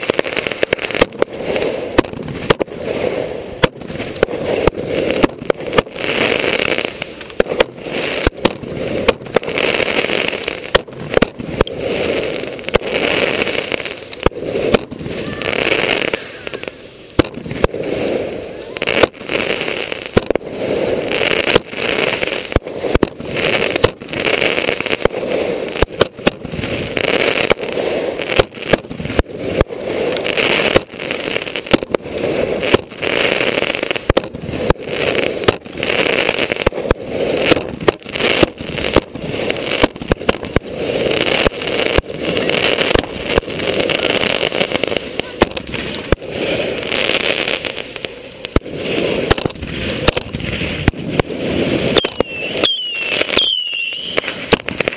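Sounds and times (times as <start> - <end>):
fireworks bangs and bursts: 0.0 - 54.9
fireworks crackling and hiss: 0.0 - 54.9.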